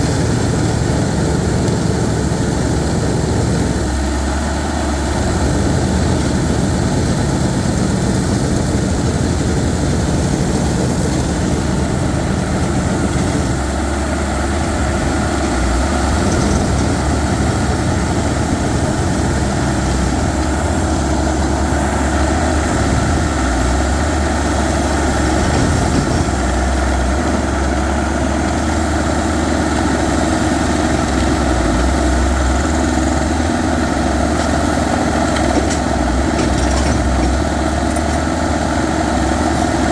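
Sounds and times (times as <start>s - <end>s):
rock drilling machine droning: 0.0s - 39.9s.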